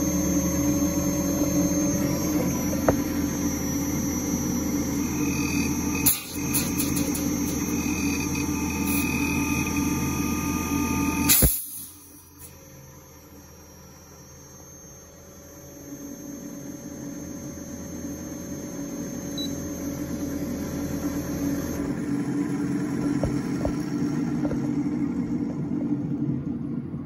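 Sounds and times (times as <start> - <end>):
compressor hum: 0.0 - 27.0
thin steady whine: 0.0 - 27.0.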